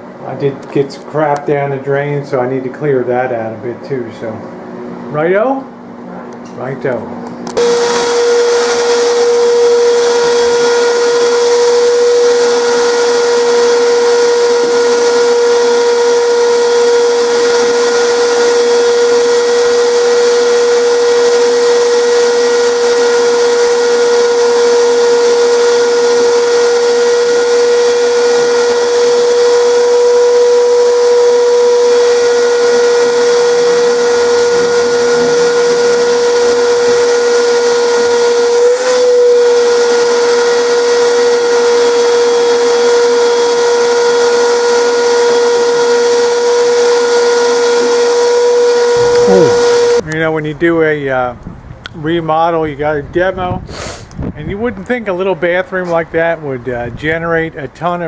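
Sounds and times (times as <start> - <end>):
shop vacuum running: 0.0 - 50.3.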